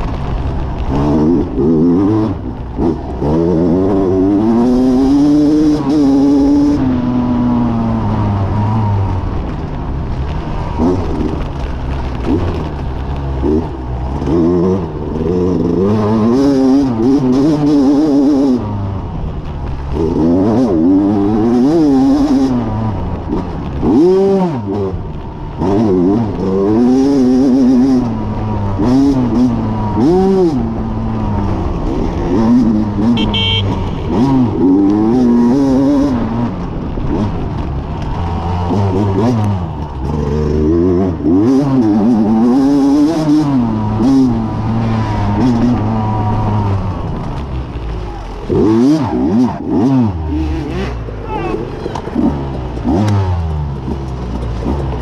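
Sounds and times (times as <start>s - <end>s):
dirt bike engine revving: 0.0s - 9.4s, 10.6s - 18.9s, 19.7s - 55.0s.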